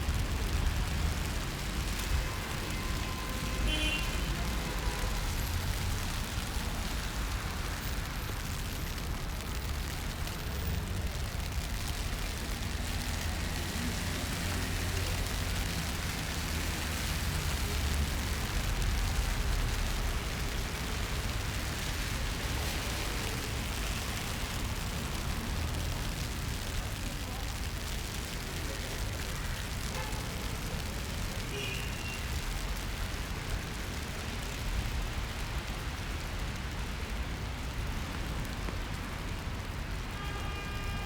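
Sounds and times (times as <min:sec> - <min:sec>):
steady rain hissing: 0:00.0 - 0:41.0.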